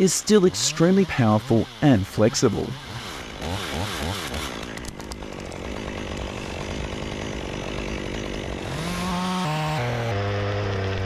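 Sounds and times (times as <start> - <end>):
battery chainsaw motor whine: 0.0 - 11.0.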